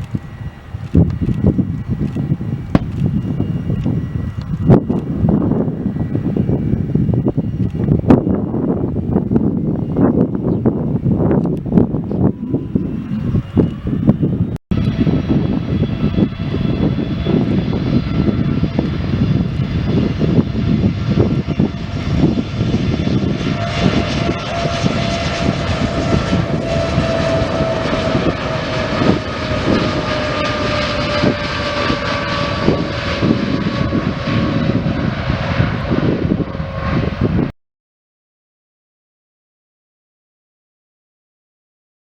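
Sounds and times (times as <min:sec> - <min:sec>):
jet engines running: 0:00.0 - 0:37.5.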